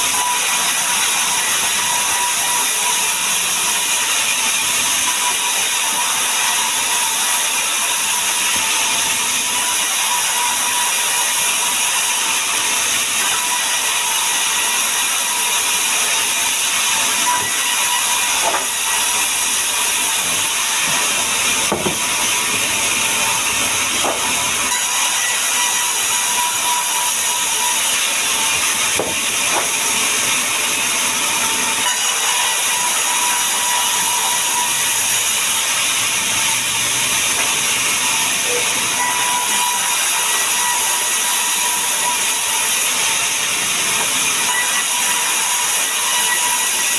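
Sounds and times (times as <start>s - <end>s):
woodworking power machine running: 0.0s - 46.9s.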